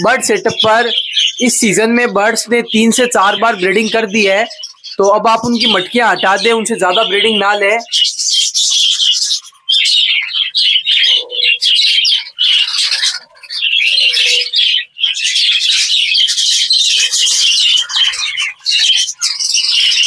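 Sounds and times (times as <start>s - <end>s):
budgerigars chattering and chirping: 0.0s - 20.0s.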